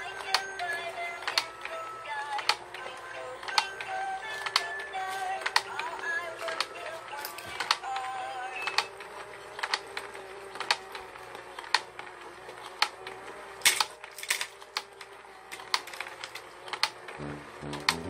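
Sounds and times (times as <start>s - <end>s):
toy motor hum: 0.0s - 18.0s
plastic mechanism clicks: 0.2s - 12.0s, 12.6s - 18.0s.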